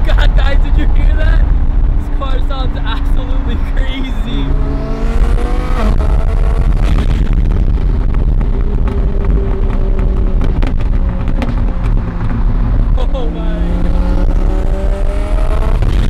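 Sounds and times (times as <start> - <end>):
exhaust pops and crackles: 0.0 - 3.2, 5.1 - 16.0
car engine revving: 0.0 - 16.0.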